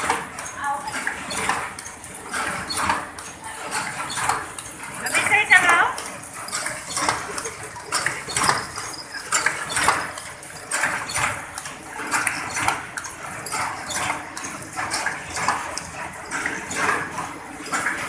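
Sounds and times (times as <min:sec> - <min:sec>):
machine rhythmic clatter: 0:00.0 - 0:18.0.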